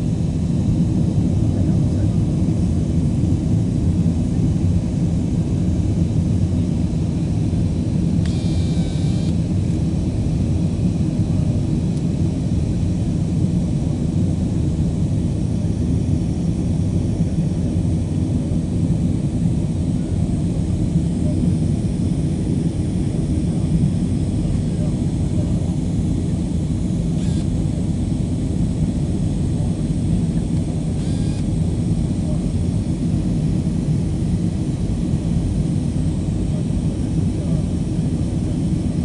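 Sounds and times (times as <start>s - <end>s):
jet cabin engine rumble: 0.0s - 39.0s.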